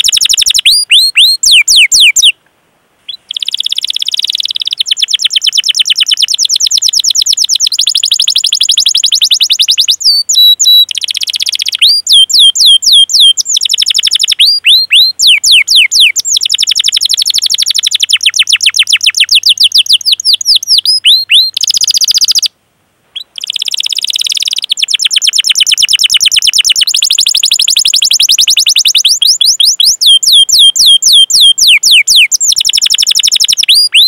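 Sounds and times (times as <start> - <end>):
canary singing trills: 0.0 - 2.4, 3.1 - 34.0.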